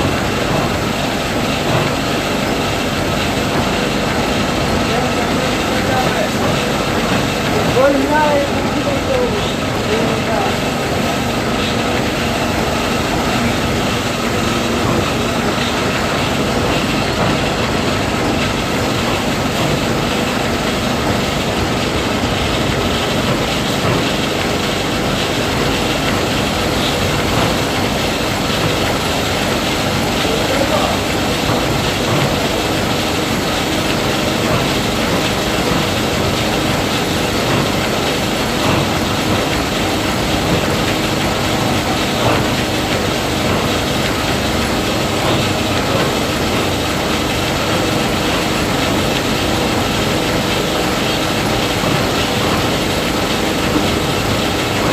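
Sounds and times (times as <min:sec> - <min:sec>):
combine harvester running: 0:00.0 - 0:54.9.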